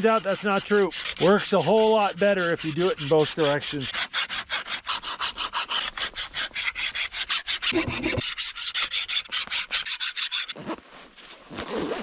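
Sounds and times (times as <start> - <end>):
file rasping on steel: 0.0 - 10.6.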